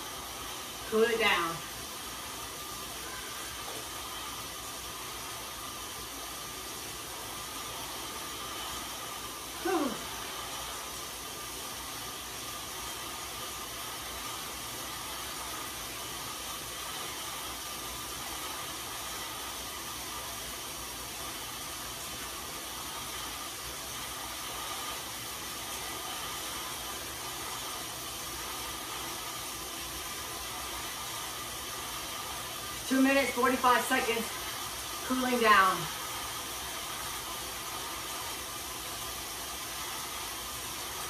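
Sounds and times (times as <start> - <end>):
bike tyres whirring on rollers: 0.0 - 41.0.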